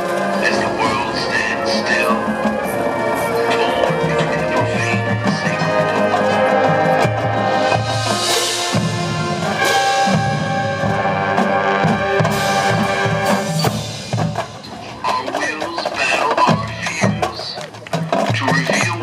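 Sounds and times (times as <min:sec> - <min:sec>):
brass chords: 0:00.0 - 0:16.5
marching drums: 0:00.0 - 0:19.0.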